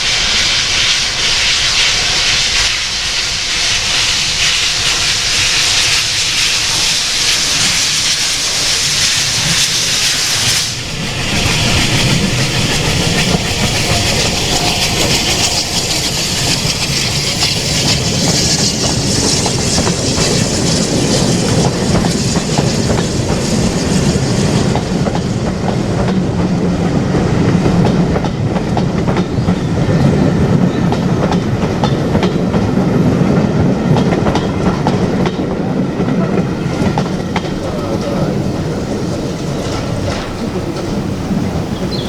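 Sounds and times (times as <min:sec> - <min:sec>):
train wheels clattering over rail joints: 0:04.6 - 0:42.0.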